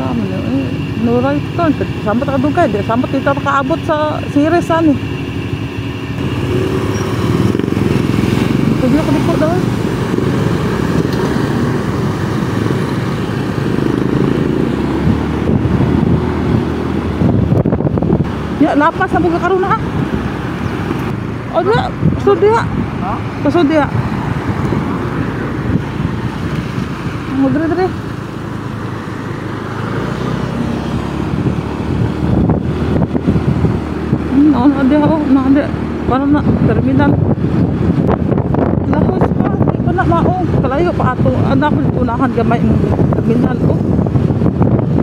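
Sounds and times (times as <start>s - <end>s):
motorcycle engine rumble: 0.0s - 45.0s
road and wind noise: 0.0s - 45.0s.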